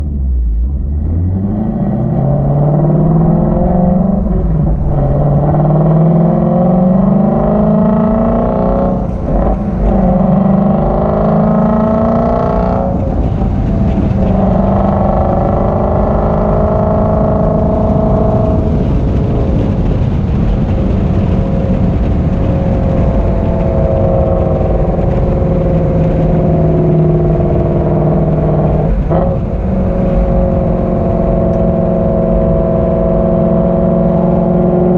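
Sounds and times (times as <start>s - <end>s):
car engine revving: 0.0s - 34.9s
gear changes: 0.0s - 34.9s.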